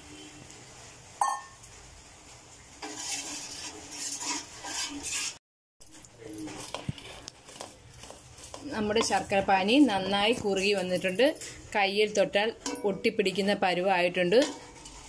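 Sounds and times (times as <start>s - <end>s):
spoon scraping metal pan: 2.8s - 15.0s.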